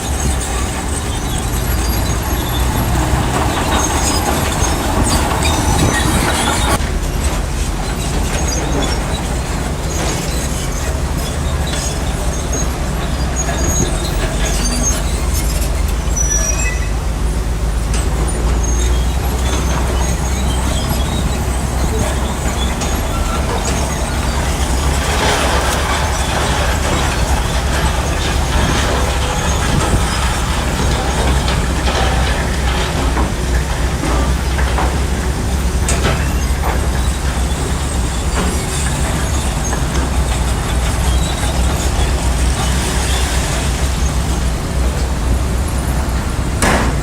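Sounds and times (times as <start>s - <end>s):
bulldozer diesel engine rumbling: 0.0s - 47.0s
metallic clanks of crawler tracks: 0.0s - 47.0s.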